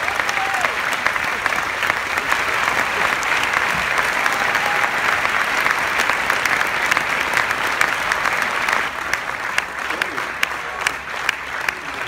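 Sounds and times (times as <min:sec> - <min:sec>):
audience clapping: 0:00.0 - 0:12.0.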